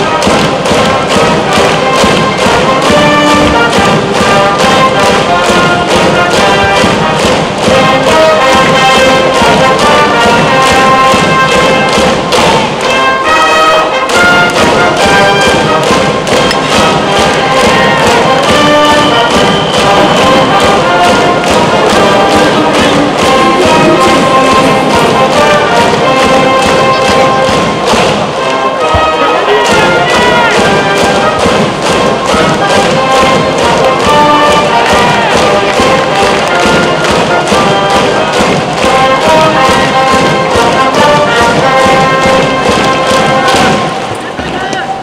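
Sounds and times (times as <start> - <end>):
steady drum beat: 0.0 - 44.7
brass band playing: 0.0 - 45.0.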